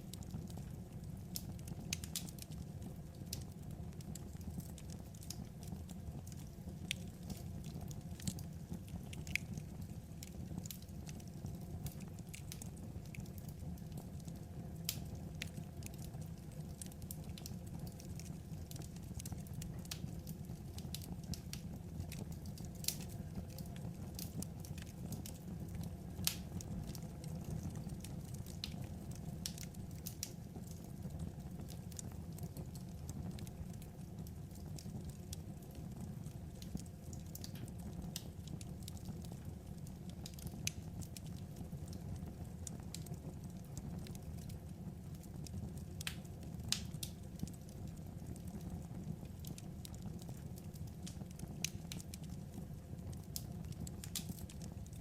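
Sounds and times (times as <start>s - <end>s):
low background noise: 0.0s - 55.0s
wood fire crackling: 0.0s - 55.0s.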